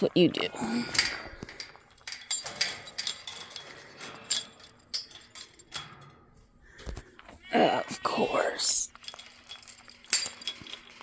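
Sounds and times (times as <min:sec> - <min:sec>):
light metallic clinks and rattles: 0:00.1 - 0:07.3, 0:08.9 - 0:11.0.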